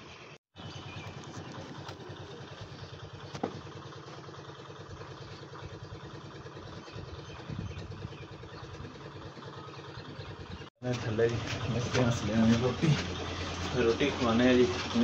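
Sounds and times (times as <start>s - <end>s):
small engine running: 0.6s - 15.0s.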